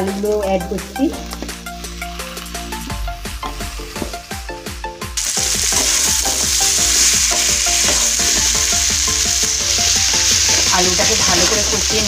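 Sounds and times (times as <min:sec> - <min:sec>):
potatoes sizzling in hot oil: 0:00.0 - 0:04.4, 0:05.2 - 0:12.0
soft background music: 0:00.0 - 0:12.0.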